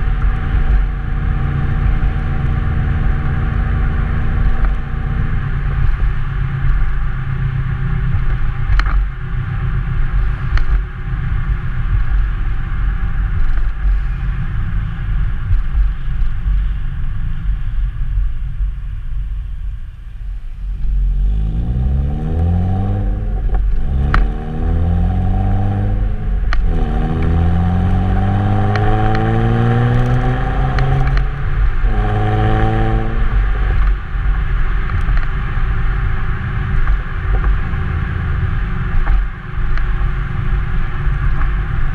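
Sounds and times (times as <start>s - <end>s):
car engine accelerating: 0.0s - 18.8s, 19.4s - 41.9s
car exhaust rumble: 0.0s - 41.9s.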